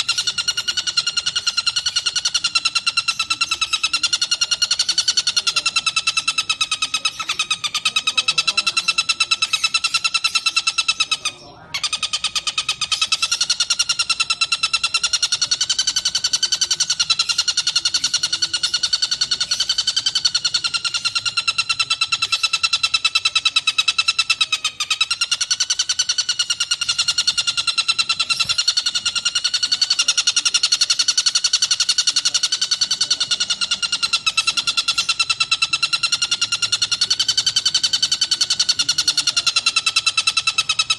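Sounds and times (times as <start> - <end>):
kingfisher chattering call: 0.0 - 40.9.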